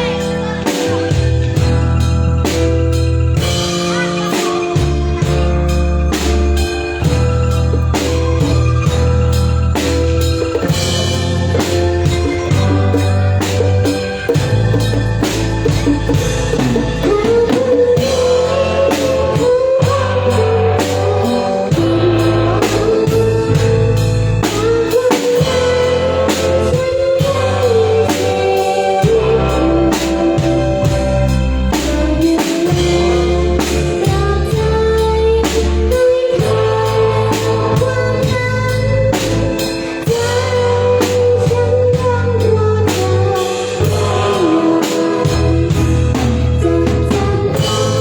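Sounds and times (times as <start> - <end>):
bass: 0.0 - 48.0
drum kit: 0.0 - 48.0
melody line: 0.0 - 48.0.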